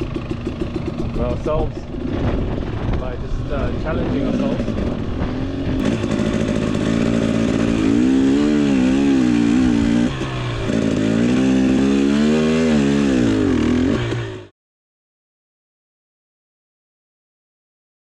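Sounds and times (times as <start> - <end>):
dirt bike engine revving: 0.0 - 14.5.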